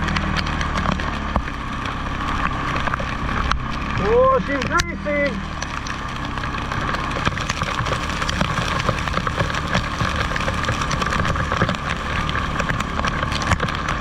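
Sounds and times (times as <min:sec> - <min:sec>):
atv engine running: 0:00.0 - 0:14.0
sharp ticks and knocks: 0:00.0 - 0:14.0.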